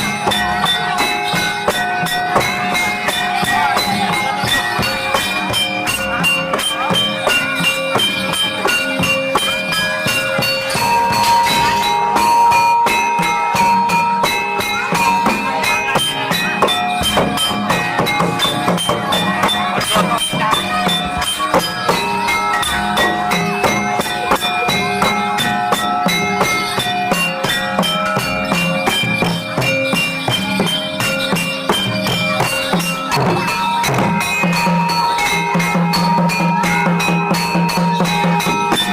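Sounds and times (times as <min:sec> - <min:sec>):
jingling bells: 0:00.0 - 0:38.9
quick drumming: 0:00.0 - 0:38.9
struck metallophones: 0:00.0 - 0:38.9.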